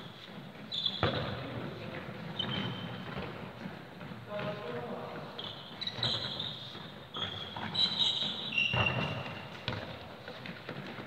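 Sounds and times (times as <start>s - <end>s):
trainers squeaking on hall floor: 0.0s - 11.0s.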